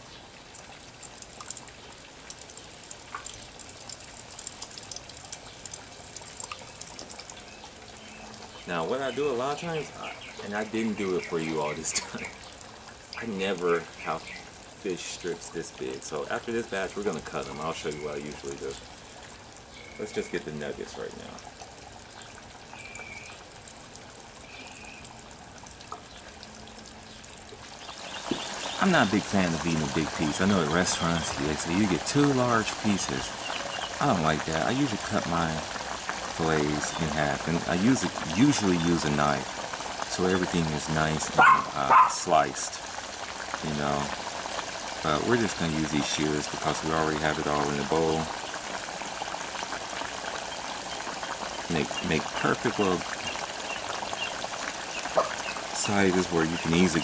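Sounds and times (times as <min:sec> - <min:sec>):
oil sizzling with crackling pops: 0:00.0 - 0:57.0.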